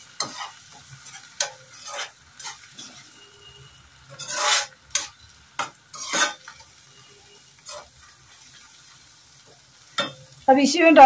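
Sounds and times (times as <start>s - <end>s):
faint sizzle: 0.0s - 11.0s
metal spatula scraping pan: 0.1s - 9.0s.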